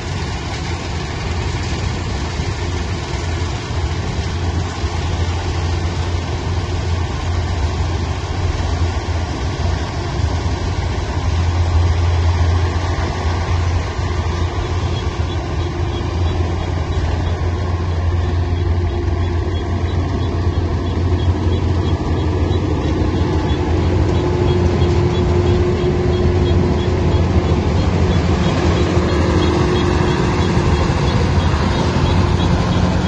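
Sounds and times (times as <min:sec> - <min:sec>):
diesel engine humming: 0:00.0 - 0:33.0
steady whine: 0:00.0 - 0:33.0.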